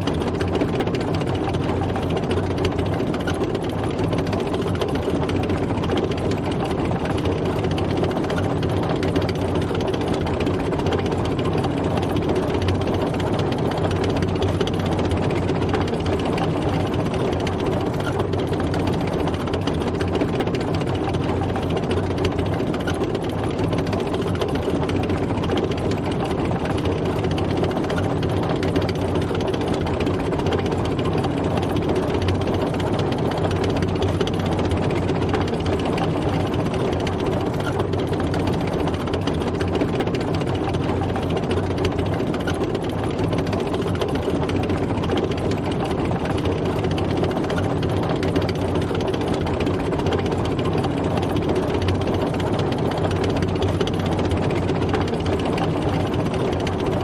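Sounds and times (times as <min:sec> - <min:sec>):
tank engine running: 0:00.0 - 0:57.0.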